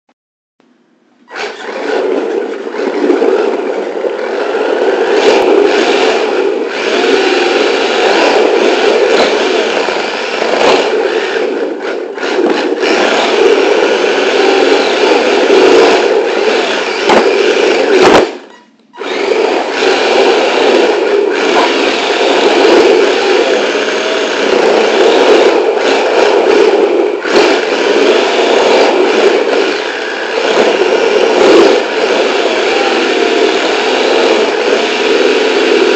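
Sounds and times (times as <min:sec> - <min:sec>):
electric motor and gear whine: 0:01.0 - 0:35.9.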